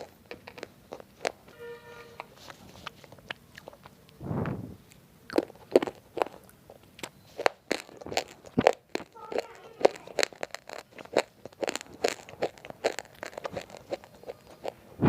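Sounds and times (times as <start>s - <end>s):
person chewing crunchy pieces: 0.0s - 1.5s, 2.1s - 4.2s, 4.8s - 15.0s.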